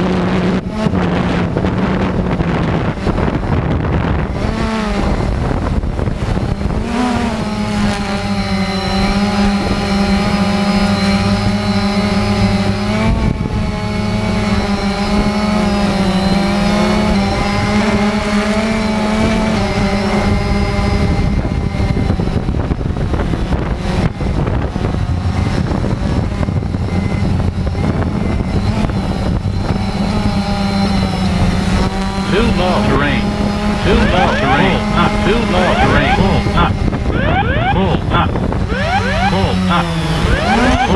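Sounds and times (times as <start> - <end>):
quadcopter motors buzzing: 0.0 - 32.3, 33.2 - 34.1, 34.8 - 40.9.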